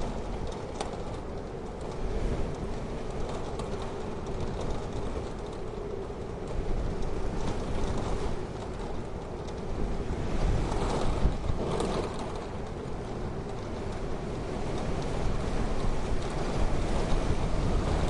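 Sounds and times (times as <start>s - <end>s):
storm wind gusts: 0.0s - 18.0s.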